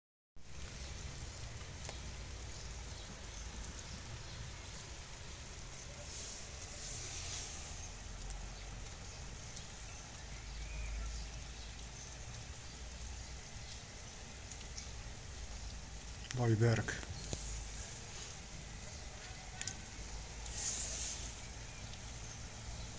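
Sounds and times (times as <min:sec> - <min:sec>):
raindrop ticks: 0:00.4 - 0:06.7, 0:07.6 - 0:22.9
heavy rain hissing: 0:00.4 - 0:22.9.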